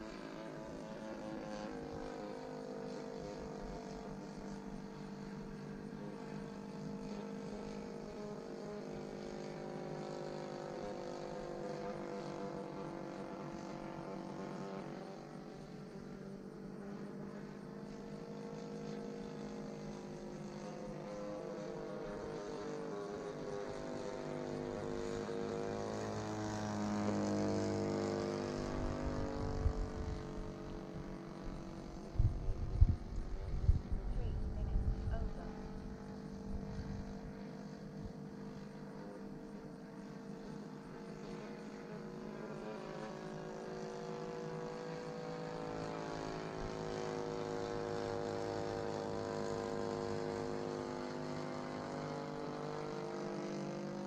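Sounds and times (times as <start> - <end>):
model plane engine droning: 0.0 - 54.0.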